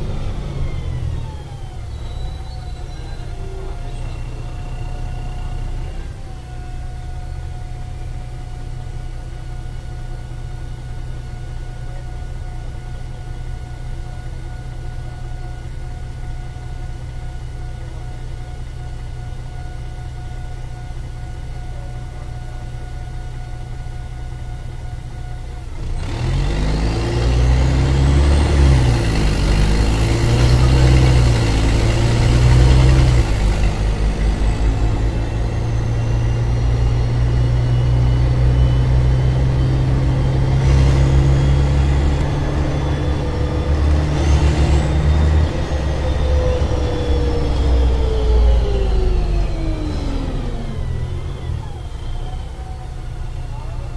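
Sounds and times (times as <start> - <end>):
bus diesel engine idling: 0.0 - 53.9
high engine whine: 0.0 - 53.9.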